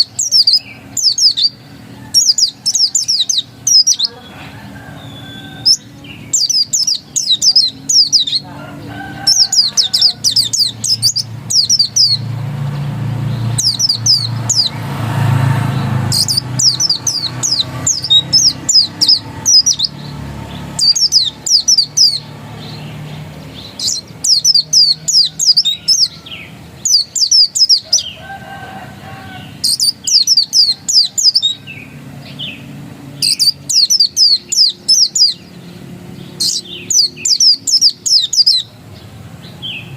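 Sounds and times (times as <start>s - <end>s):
bird high twittering song: 0.0s - 39.9s.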